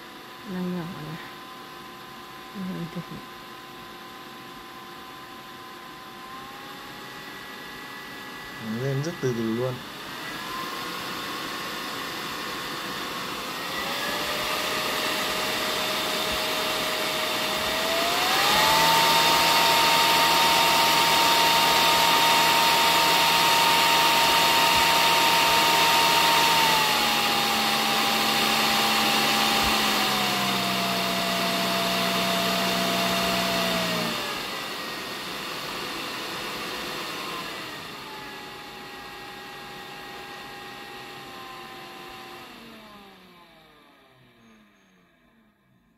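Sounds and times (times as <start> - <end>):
fan whining and rushing air: 5.7 - 43.7.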